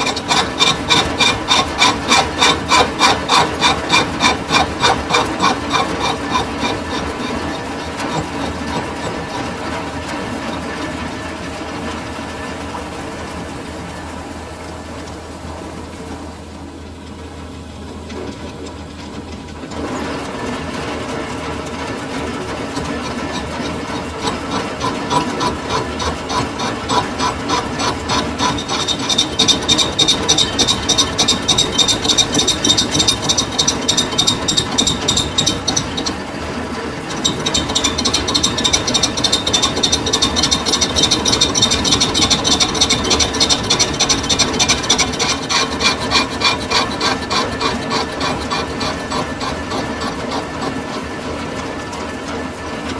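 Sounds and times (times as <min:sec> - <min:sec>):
metal lathe cutting metal: 0:00.0 - 0:52.9.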